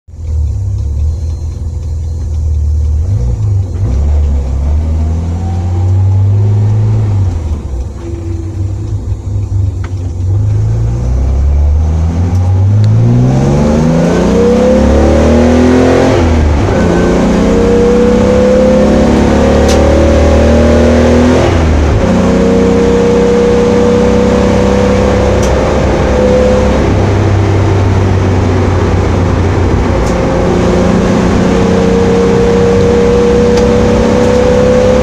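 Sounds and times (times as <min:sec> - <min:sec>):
car engine accelerating: 0:00.1 - 0:35.0.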